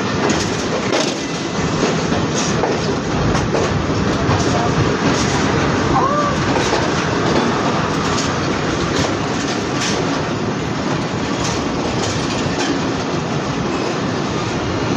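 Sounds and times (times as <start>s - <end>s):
wheels clicking over rail joints: 0.0s - 13.8s
train wheels rumbling on rails: 0.0s - 14.9s.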